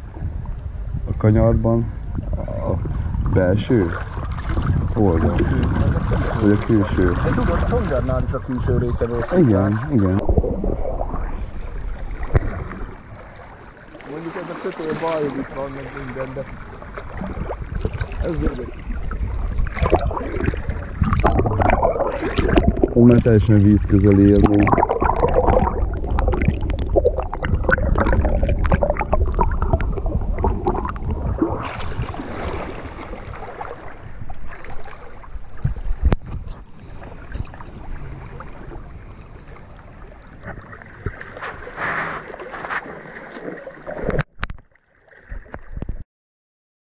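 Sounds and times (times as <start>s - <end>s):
river water splashing: 3.8s - 8.5s, 9.1s - 23.4s, 24.0s - 36.0s, 36.8s - 45.7s.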